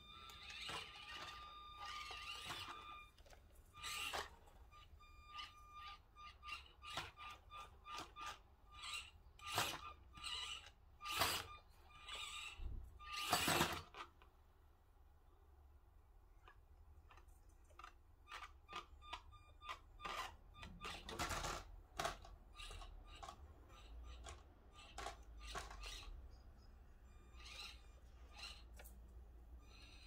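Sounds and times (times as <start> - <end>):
tiny electric motor whining: 0.0 - 14.0, 17.8 - 30.0.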